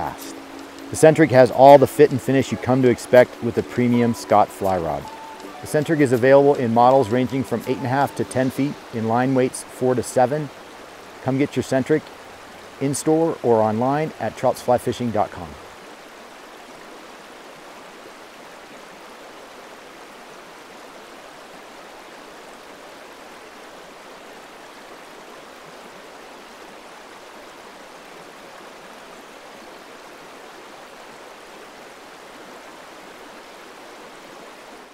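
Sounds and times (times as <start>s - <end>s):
flowing stream: 0.0s - 34.9s.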